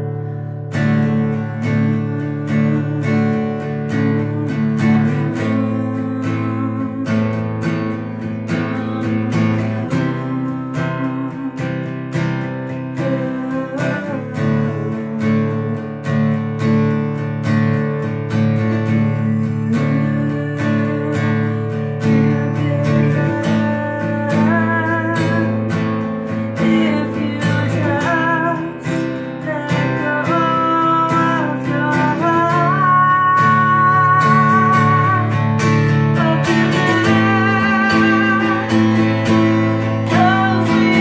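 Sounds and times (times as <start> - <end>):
acoustic guitar strumming: 0.0 - 41.0
woman singing: 0.0 - 41.0.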